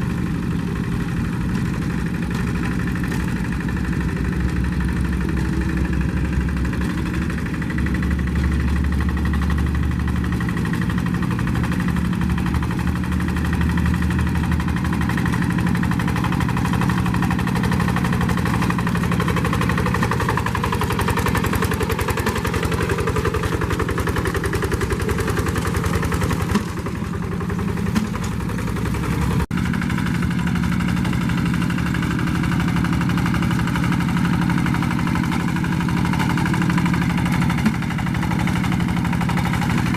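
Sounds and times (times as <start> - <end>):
diesel hand tractor engine running: 0.0 - 39.9.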